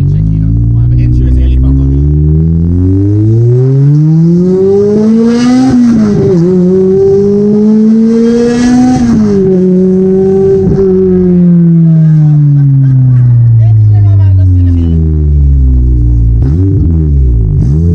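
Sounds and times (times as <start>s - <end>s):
car engine accelerating: 0.0s - 17.9s.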